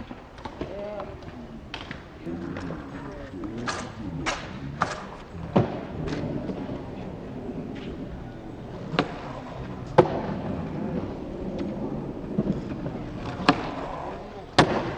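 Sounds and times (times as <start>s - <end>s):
skateboard rolling on concrete: 0.0s - 14.9s
skateboard slaps and clacks: 0.0s - 14.9s.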